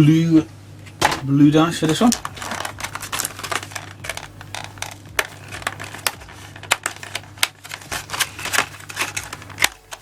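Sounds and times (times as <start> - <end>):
card packaging clicking and crinkling: 1.8 - 10.0.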